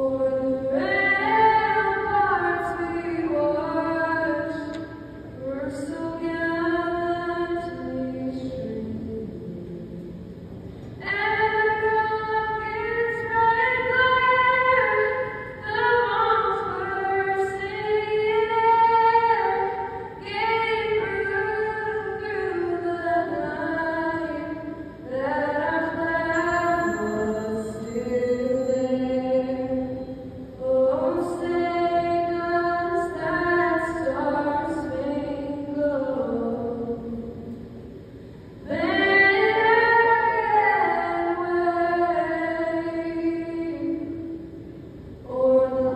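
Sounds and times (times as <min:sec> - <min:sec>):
woman singing unaccompanied: 0:00.0 - 0:10.3, 0:11.0 - 0:37.6, 0:38.6 - 0:44.4, 0:45.2 - 0:45.9.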